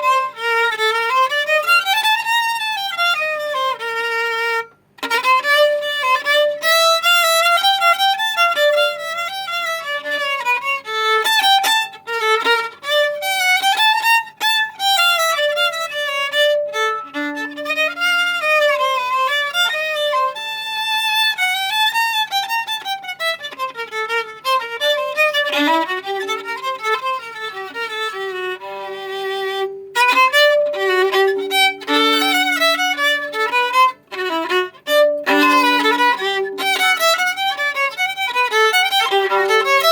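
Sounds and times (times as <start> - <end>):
solo violin playing: 0.0 - 39.9.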